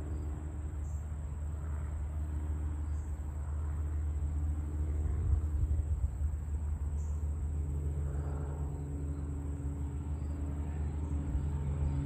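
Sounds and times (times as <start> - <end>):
distant propeller plane engine drone: 0.0 - 12.0.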